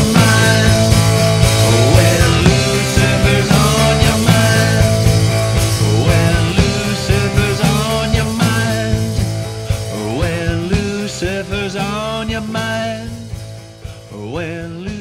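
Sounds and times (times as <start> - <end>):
punk rock band music: 0.0 - 15.0.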